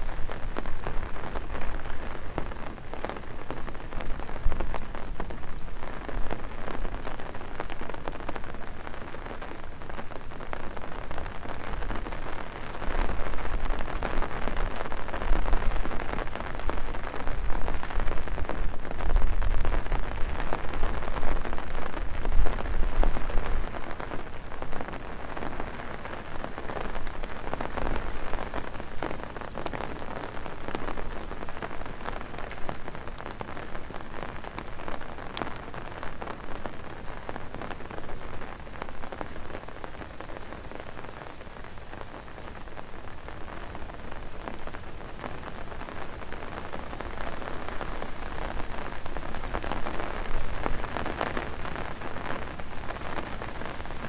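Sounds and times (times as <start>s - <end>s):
heavy rain on an umbrella: 0.0s - 54.0s.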